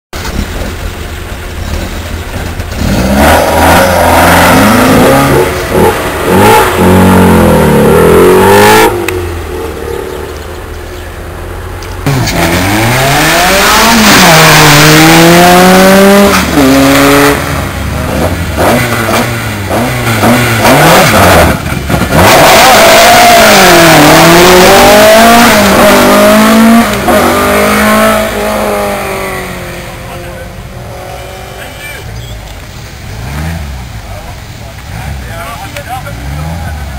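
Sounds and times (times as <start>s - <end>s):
race car engines accelerating: 0.2s - 36.9s.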